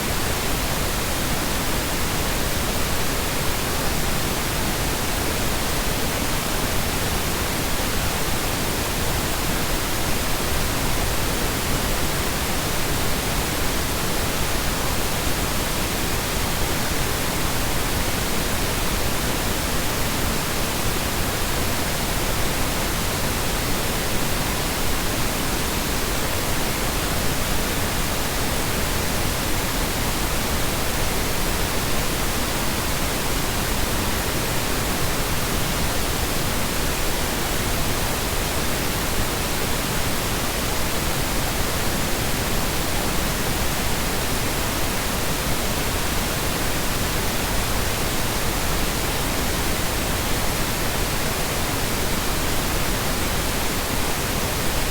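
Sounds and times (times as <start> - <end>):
steady synthetic noise hiss: 0.0 - 54.9.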